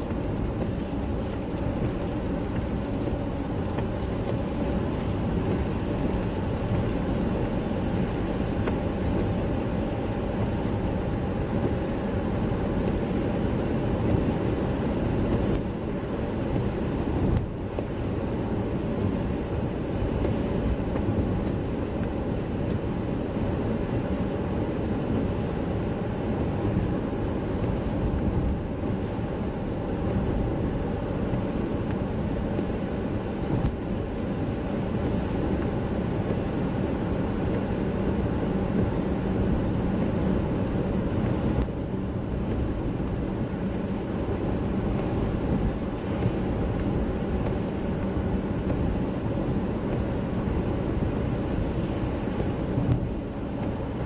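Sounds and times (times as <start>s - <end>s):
tyres on wet road: 0.0s - 54.0s.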